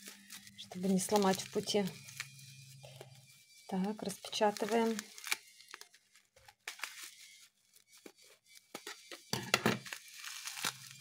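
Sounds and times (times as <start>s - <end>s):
plastic wrapping crinkling: 0.0s - 11.0s
scissors cutting plastic: 0.0s - 11.0s.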